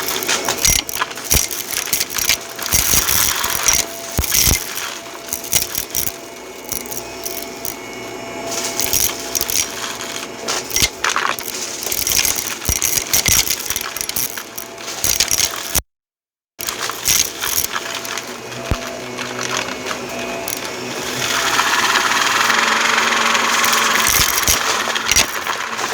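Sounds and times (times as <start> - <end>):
debris rattling in vacuum: 0.0 - 15.8, 16.6 - 25.9
vacuum cleaner motor: 0.0 - 15.8, 16.6 - 25.9.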